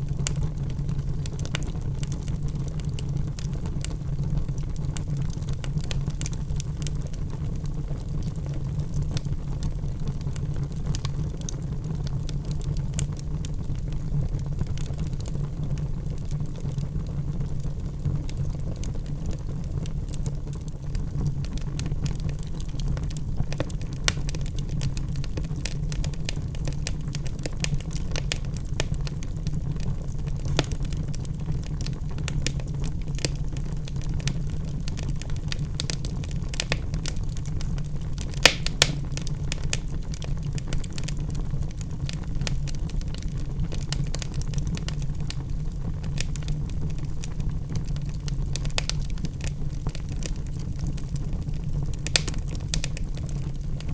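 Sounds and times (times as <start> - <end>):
logs crackling and popping: 0.0 - 53.9
low rumble of flames: 0.0 - 53.9.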